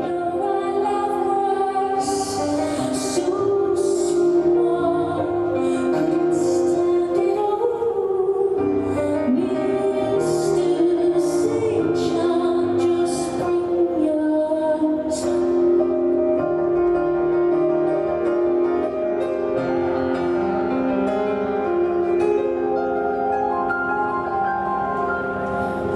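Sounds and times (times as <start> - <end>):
slow soft music: 0.0 - 25.9.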